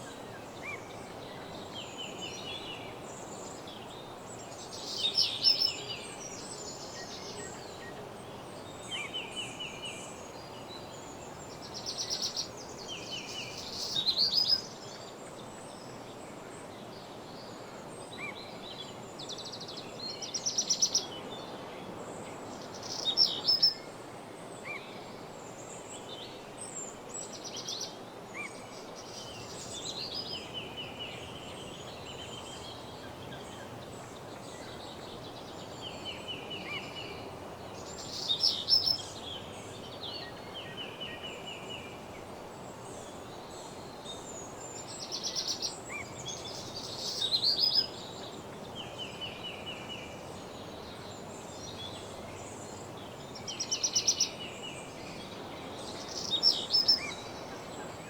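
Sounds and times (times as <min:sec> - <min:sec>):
songbirds singing trills: 0:00.0 - 0:16.0, 0:22.7 - 0:23.9, 0:24.6 - 0:58.0
low background hiss: 0:00.0 - 0:58.0.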